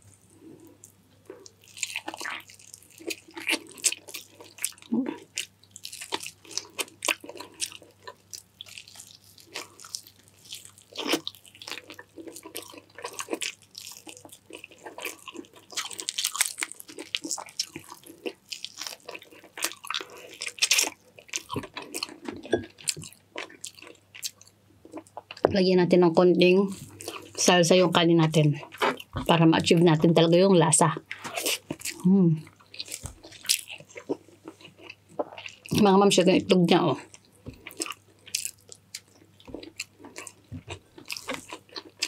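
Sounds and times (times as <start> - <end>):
wet chewing and mouth smacks: 0.8 - 25.4, 31.1 - 35.8, 37.1 - 42.0.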